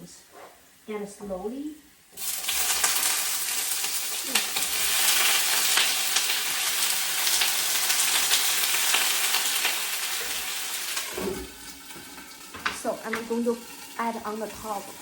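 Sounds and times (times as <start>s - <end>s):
chicken wings sizzling in hot oil: 0.8s - 15.0s.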